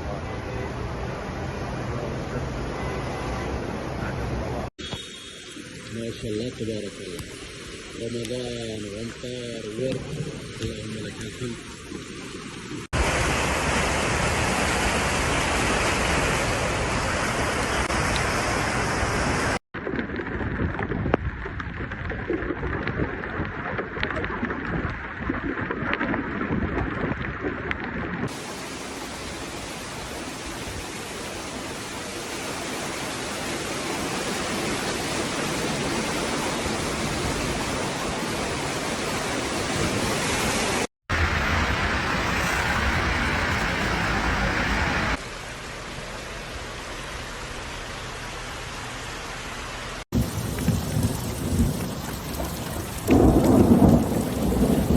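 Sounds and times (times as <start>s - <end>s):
floodwater rushing: 0.0s - 54.9s
heavy rain: 0.0s - 54.9s.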